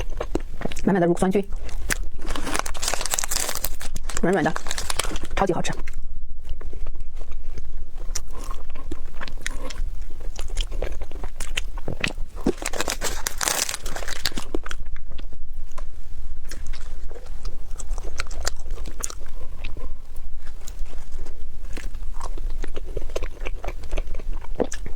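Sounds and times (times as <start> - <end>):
crunchy chewing: 0.0 - 5.4, 6.4 - 24.9.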